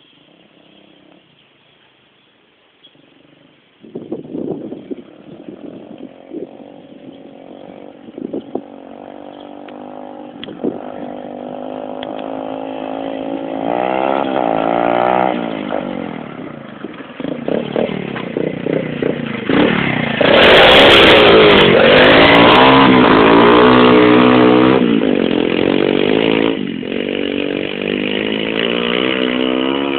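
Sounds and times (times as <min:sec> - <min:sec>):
motorbike engine revving: 0:04.6 - 0:29.9.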